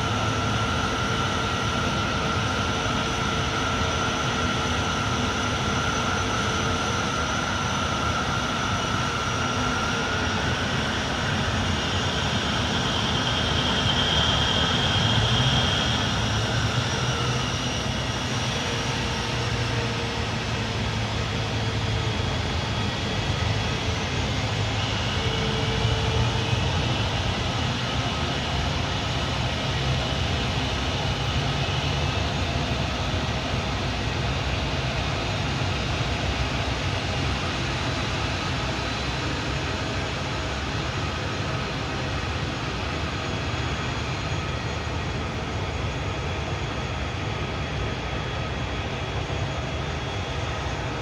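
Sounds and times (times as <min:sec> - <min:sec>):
airliner engines whining: 0:00.0 - 0:51.0.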